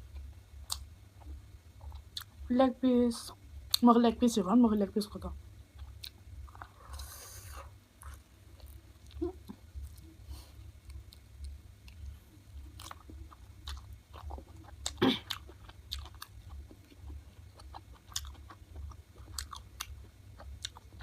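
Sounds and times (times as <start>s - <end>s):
steady low hum: 0.0s - 21.0s
person chewing: 0.1s - 2.4s, 5.8s - 21.0s.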